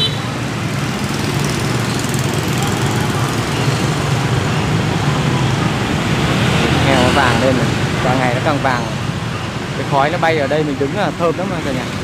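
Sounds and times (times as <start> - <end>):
road traffic engine drone: 0.0 - 12.0.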